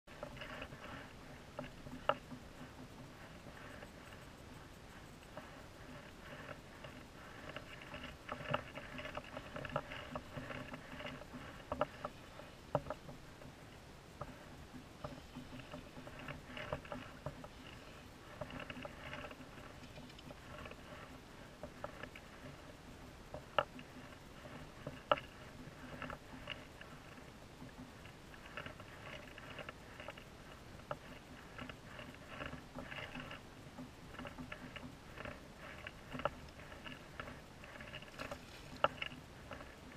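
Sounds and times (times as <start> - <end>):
sharp clicks and knocks: 0.1 - 39.9.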